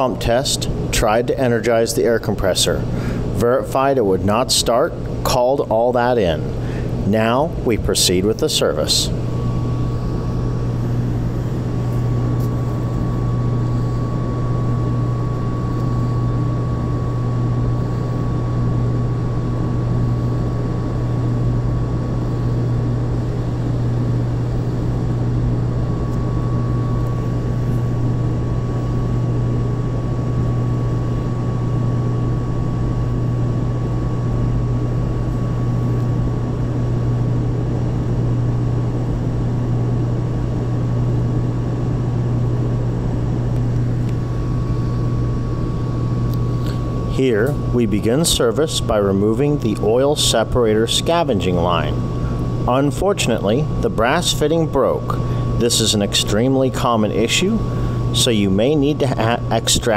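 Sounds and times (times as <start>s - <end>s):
high whine: 0.0s - 59.9s
industrial machinery humming: 0.0s - 59.9s.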